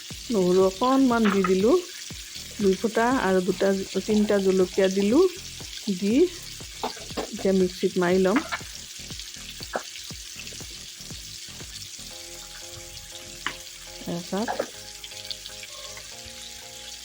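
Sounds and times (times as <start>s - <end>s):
faint background music: 0.0s - 17.0s
fish sizzling in hot oil: 0.0s - 17.0s.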